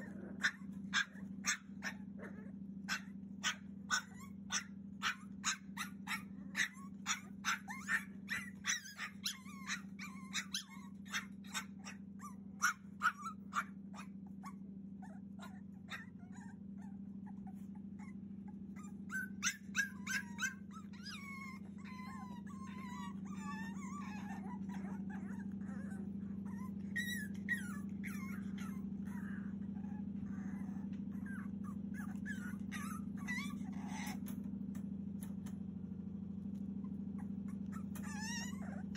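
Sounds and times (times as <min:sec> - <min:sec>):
puppy whining and whimpering: 0:00.0 - 0:34.4, 0:36.8 - 0:38.9
puppy yelping: 0:00.0 - 0:34.4, 0:36.8 - 0:38.9
low hum: 0:00.0 - 0:38.9.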